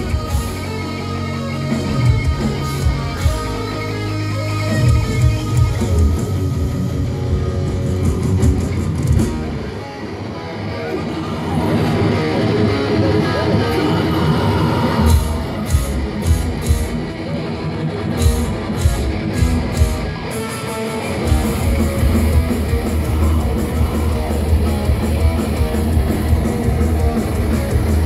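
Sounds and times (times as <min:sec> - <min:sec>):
metal band playing live: 0:00.0 - 0:28.0.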